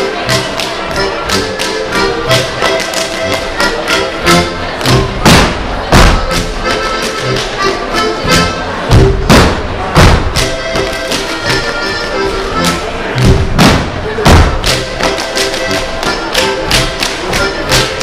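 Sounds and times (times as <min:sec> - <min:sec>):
live folk dance music: 0:00.0 - 0:18.0
dancers slapping thighs and soles: 0:00.2 - 0:04.1, 0:04.8 - 0:18.0.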